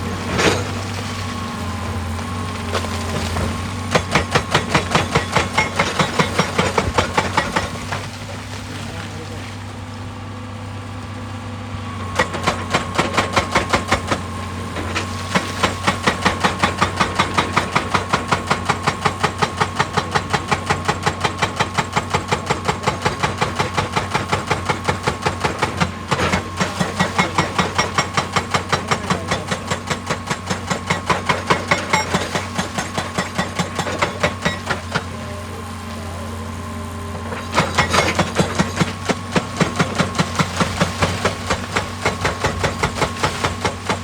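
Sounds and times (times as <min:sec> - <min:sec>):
hydraulic breaker hammering rock: 0:00.0 - 0:09.3, 0:12.0 - 0:44.0
diesel engine running: 0:00.0 - 0:44.0.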